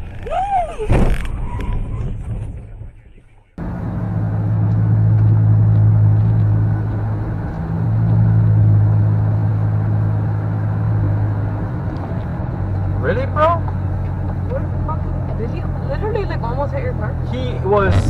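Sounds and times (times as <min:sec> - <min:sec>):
car engine and road drone: 0:01.2 - 0:18.0.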